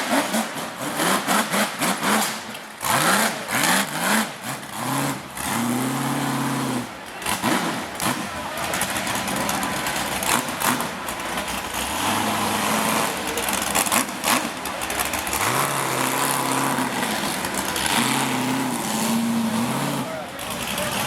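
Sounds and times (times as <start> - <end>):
buggy engine at high revs: 0.0 - 21.0.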